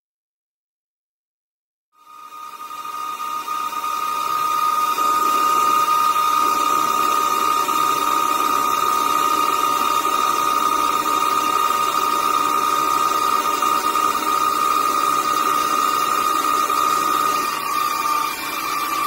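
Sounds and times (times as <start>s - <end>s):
lathe high whine: 2.0s - 19.0s.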